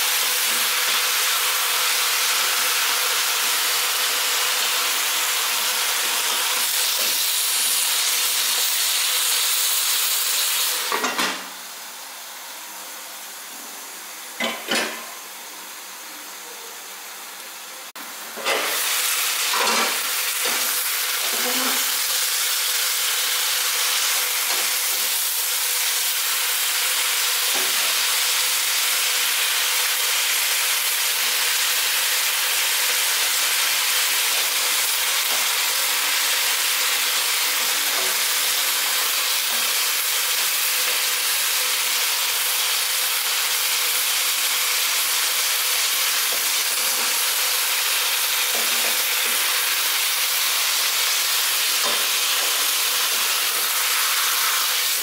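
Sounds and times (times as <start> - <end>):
food sizzling in a pot: 0.0 - 55.0.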